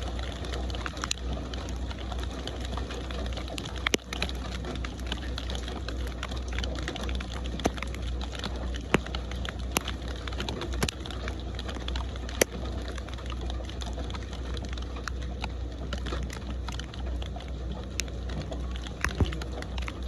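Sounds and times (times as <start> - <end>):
constant low rumble: 0.0 - 20.0
raindrops ticking close by: 0.0 - 20.0
steady rain hiss: 0.0 - 20.0.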